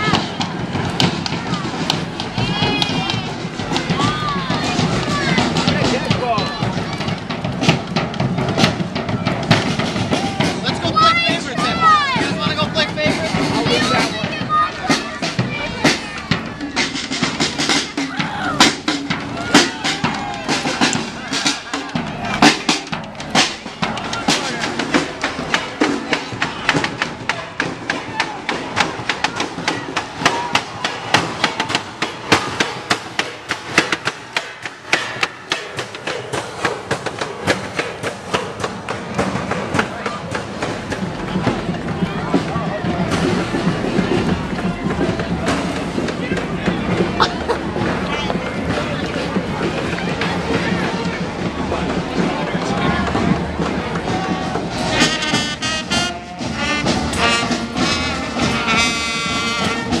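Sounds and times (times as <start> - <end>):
marching brass band playing: 0.0 - 60.0.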